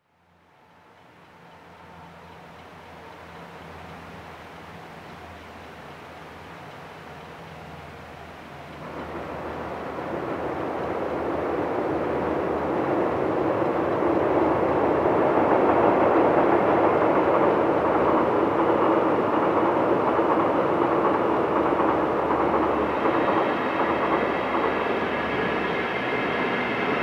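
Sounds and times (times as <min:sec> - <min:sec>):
train wheels rumbling on rail: 0:00.1 - 0:27.0.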